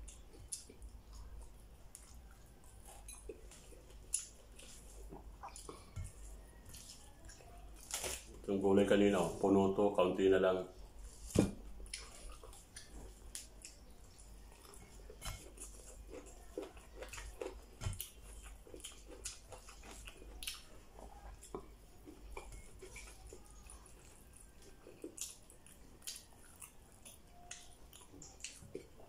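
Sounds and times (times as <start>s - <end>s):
man chewing and lip-smacking: 0.0s - 8.0s, 11.0s - 29.0s.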